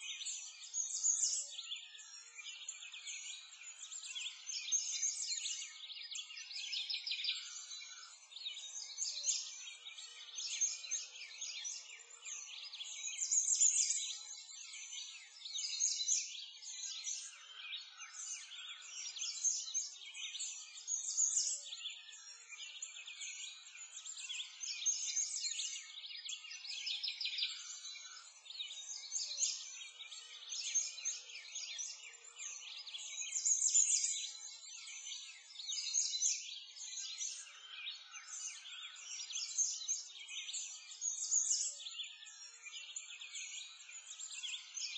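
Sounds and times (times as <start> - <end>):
songbirds chirping and singing: 0.0 - 44.9.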